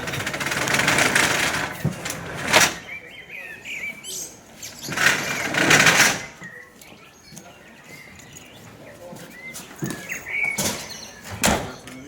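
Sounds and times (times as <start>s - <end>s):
birds chirping: 0.0s - 12.0s
faint voices: 0.0s - 12.0s.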